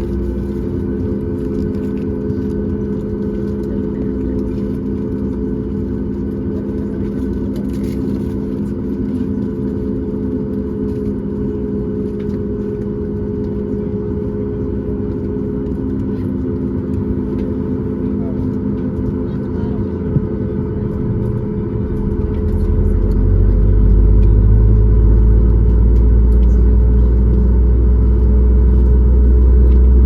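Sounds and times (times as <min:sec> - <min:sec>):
jet engines droning in cabin: 0:00.0 - 0:30.0.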